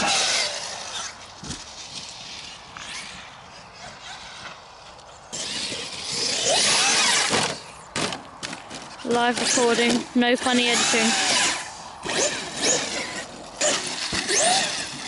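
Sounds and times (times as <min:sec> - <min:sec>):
rc truck electric motor whine: 0:00.0 - 0:15.0.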